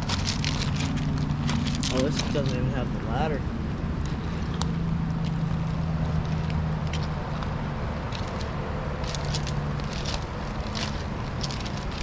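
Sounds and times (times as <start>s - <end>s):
footsteps crunching on gravel: 0.0s - 3.4s, 4.1s - 12.0s
distant road traffic rumble: 0.0s - 12.0s.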